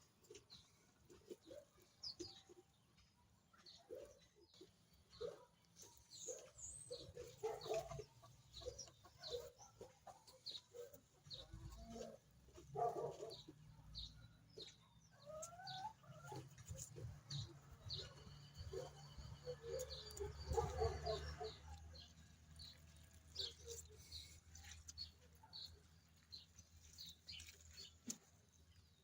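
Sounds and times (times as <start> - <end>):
chickens clucking: 0.1 - 13.8, 14.5 - 25.4.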